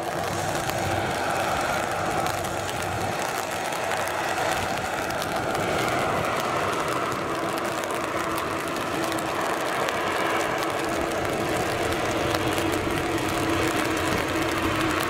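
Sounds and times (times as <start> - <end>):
turboprop aircraft taxiing: 0.0 - 15.0.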